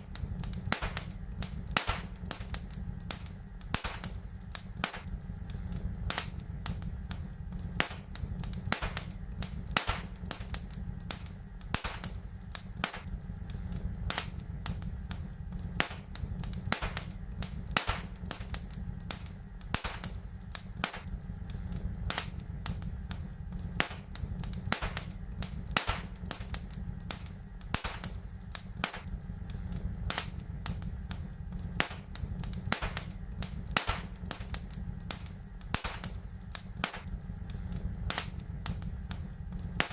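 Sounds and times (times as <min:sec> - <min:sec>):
low steady rumble: 0:00.0 - 0:39.9
wood fire crackling: 0:00.0 - 0:39.9.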